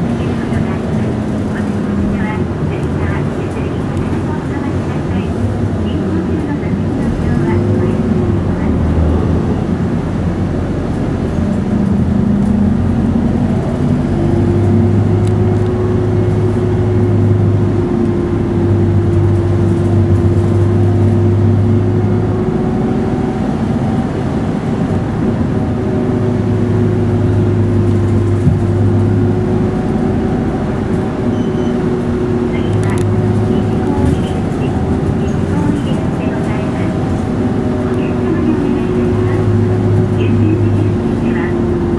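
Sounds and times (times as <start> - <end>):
diesel engine drone: 0.0 - 41.9
road noise: 0.0 - 41.9.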